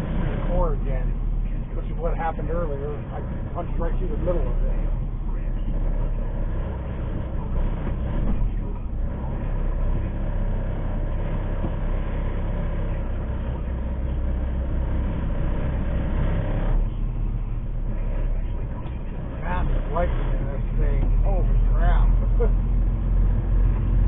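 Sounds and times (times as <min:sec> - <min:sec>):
diesel truck engine rumble: 0:00.0 - 0:24.0.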